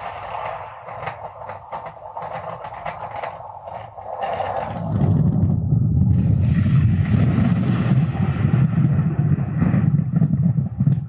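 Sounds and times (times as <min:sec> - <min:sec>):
thunder rumble through speaker: 0:00.0 - 0:11.0.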